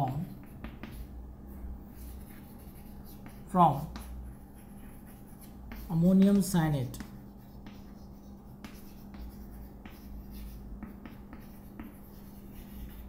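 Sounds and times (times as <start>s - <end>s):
light chalk taps: 0.0s - 1.2s, 2.0s - 13.0s
chalk scratching on chalkboard: 0.0s - 13.0s
low electrical hum: 0.0s - 13.0s.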